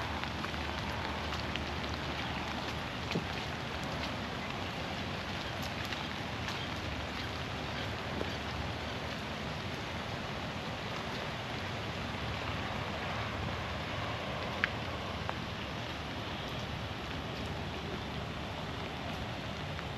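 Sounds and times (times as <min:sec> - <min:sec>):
steady rain in forest: 0:00.0 - 0:19.9.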